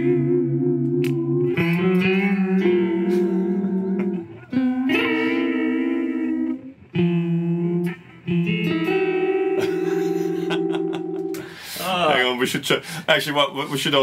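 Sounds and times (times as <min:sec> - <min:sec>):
electric guitar chords wavering: 0:00.0 - 0:11.7.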